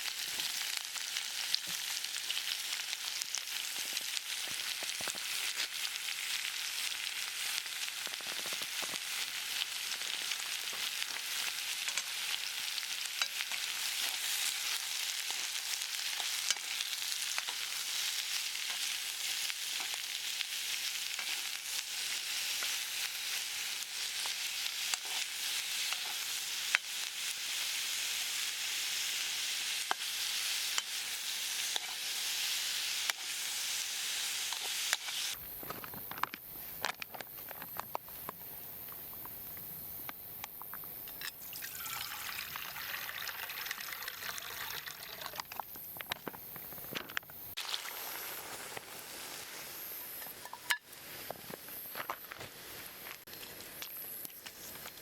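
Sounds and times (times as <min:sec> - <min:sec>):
food sizzling in a pot: 0:00.0 - 0:39.3, 0:40.7 - 0:55.0
sharp popping of frying food: 0:00.0 - 0:49.0, 0:49.8 - 0:51.0.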